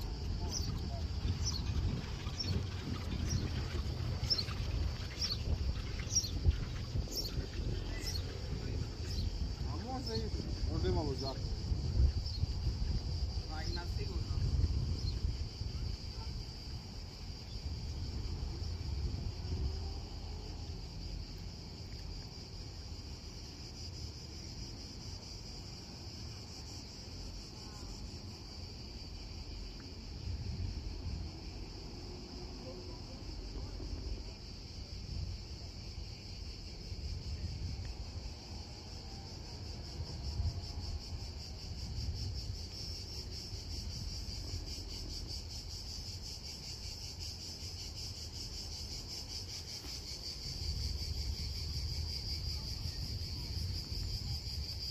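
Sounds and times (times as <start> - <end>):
cicadas chirring: 0.0 - 54.9.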